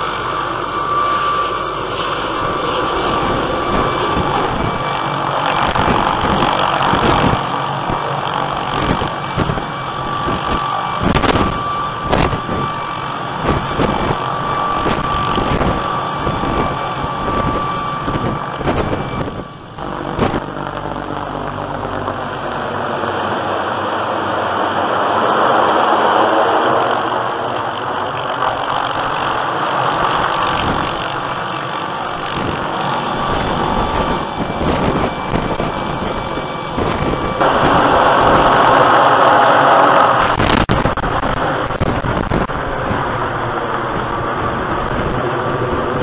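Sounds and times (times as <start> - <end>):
helicopter rotor and engine: 0.0 - 46.0
high turbine whine: 0.0 - 46.0.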